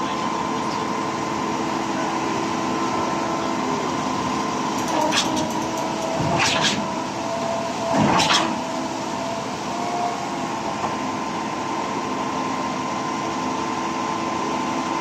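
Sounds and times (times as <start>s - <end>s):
concrete pump truck droning: 0.0s - 15.0s.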